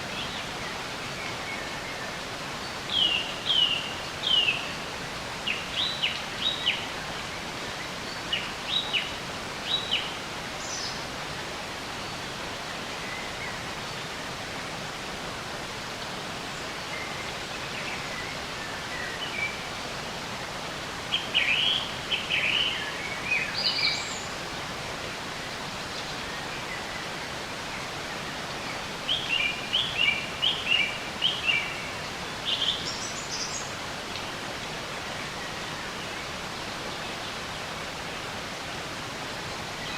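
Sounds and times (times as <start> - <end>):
songbirds chirping: 0.0 - 39.9
steady nature ambience hiss: 0.0 - 39.9.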